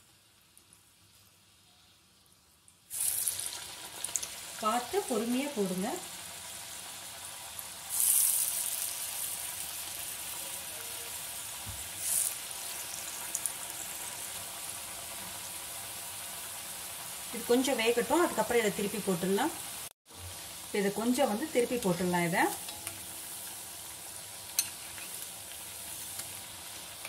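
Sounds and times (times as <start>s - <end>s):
dough deep-frying in oil: 0.0s - 27.0s.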